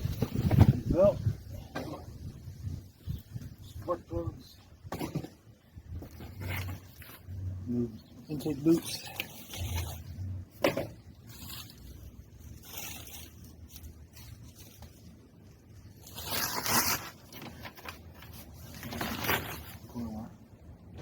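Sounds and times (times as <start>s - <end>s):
rustling and scraping: 0.0s - 20.2s.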